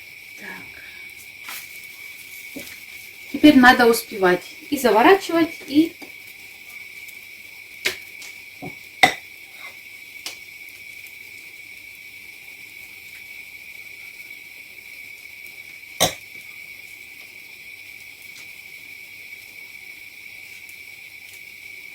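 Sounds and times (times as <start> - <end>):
thin high-pitched whine: 0.0 - 18.8.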